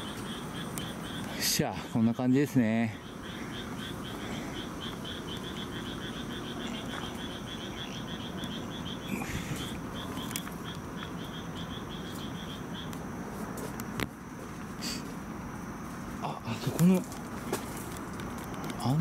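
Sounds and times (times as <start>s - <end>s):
steady high hum: 0.0s - 19.0s.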